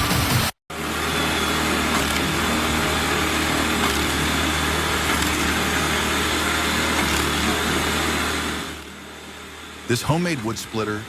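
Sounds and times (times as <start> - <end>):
machine engine running steadily: 0.0 - 11.0.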